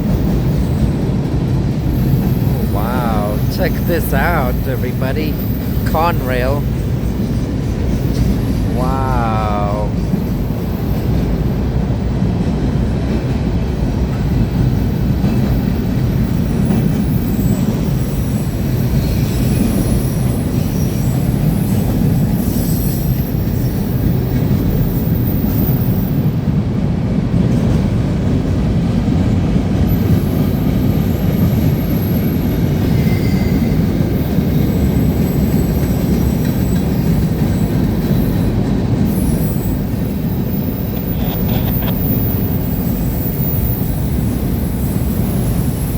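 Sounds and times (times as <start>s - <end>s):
train wheels rumbling on rail: 0.0s - 4.6s, 9.9s - 45.9s.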